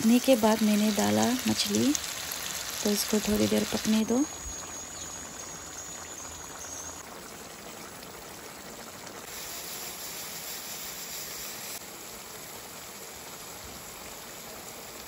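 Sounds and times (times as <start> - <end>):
curry simmering in a pan: 0.0 - 15.0.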